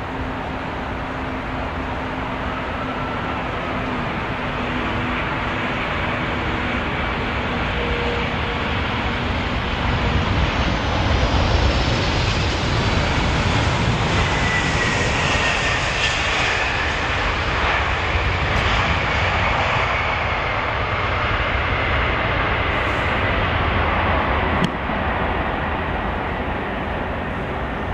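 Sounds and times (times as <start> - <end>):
jet engine roar: 0.0 - 27.9.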